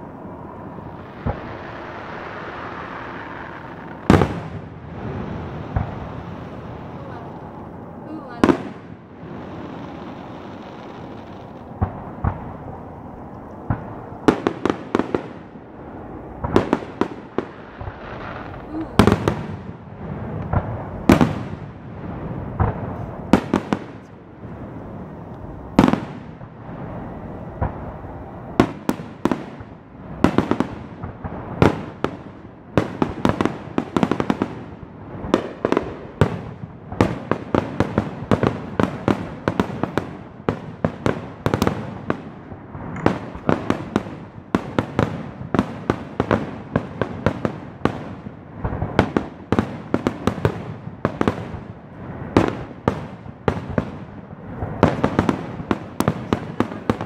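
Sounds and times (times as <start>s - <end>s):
fireworks bursting with bangs: 0.0s - 57.0s
fireworks crackle: 0.0s - 57.0s.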